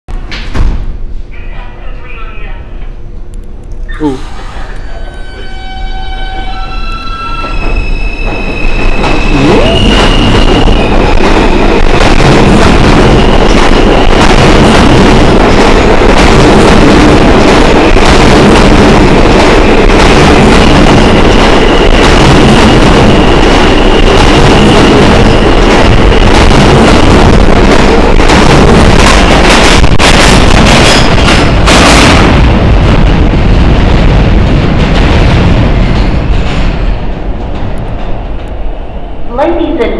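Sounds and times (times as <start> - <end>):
steel wheels on rail: 4.3 - 39.2.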